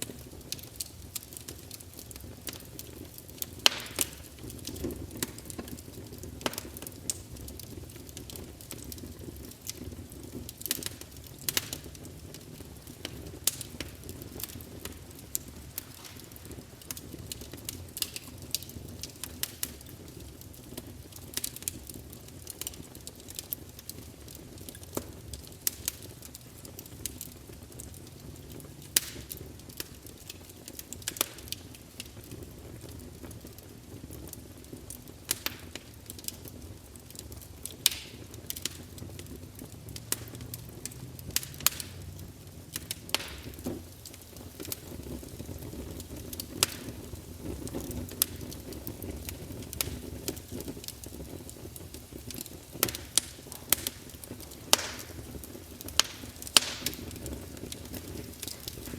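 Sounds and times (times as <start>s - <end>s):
campfire flames rumbling: 0.0s - 58.9s
fire crackling and popping: 0.0s - 58.9s.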